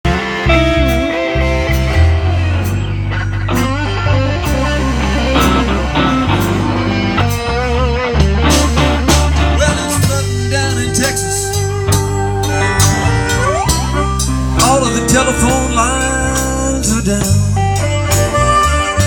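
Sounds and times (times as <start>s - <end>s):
bass guitar: 0.0s - 19.0s
drums: 0.0s - 19.0s
electric guitar lead with bent notes: 0.0s - 19.0s
slow blues band playing: 0.0s - 19.0s.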